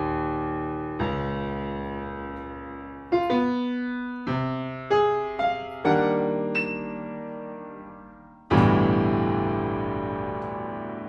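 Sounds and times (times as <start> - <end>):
grand piano playing slow chords: 0.0 - 11.0.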